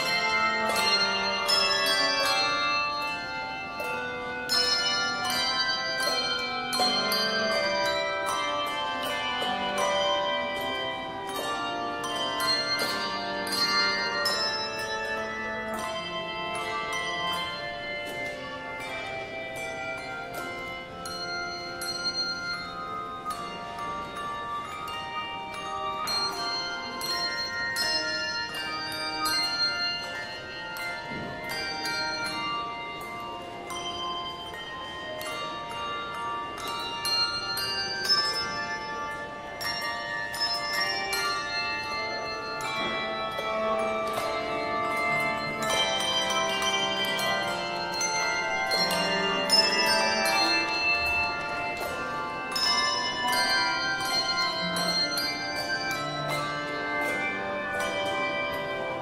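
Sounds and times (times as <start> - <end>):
handbells ringing a hymn: 0.0 - 59.0.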